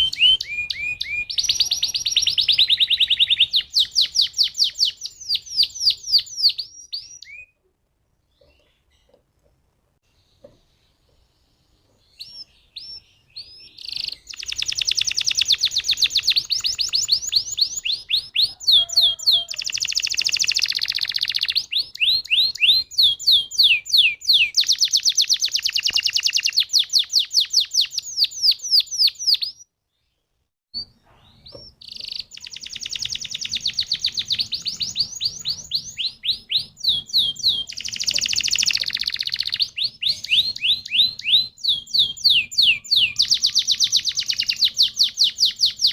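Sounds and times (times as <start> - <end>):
canary singing trills: 0.0 - 7.6, 10.2 - 30.1, 30.8 - 45.9.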